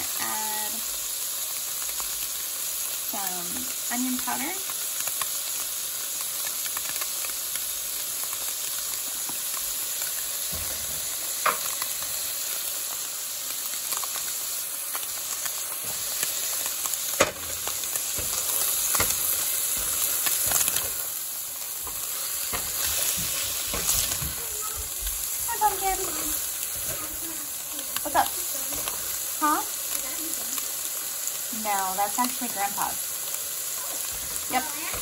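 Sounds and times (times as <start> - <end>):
tofu and onions sizzling in skillet: 0.0 - 35.0.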